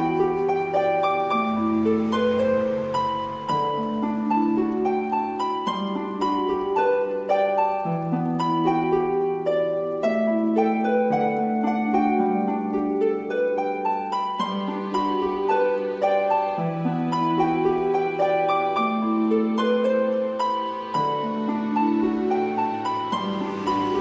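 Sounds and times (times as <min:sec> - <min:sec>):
plucked string music: 0:00.0 - 0:24.0.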